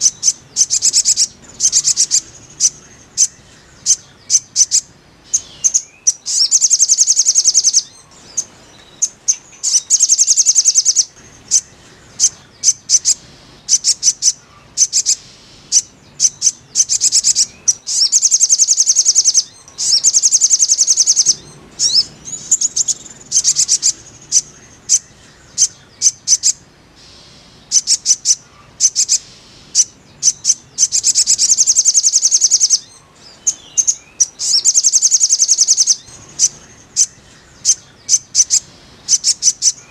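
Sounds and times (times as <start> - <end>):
bird trills: 0.0 - 39.9
sharp bird chirps: 0.0 - 39.9.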